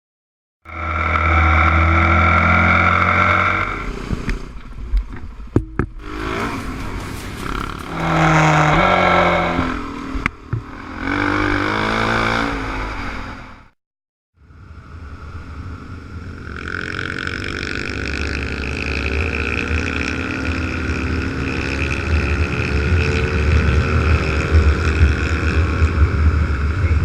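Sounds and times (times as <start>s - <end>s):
motorcycle engines revving: 0.7s - 4.8s, 5.4s - 13.8s, 14.4s - 27.0s.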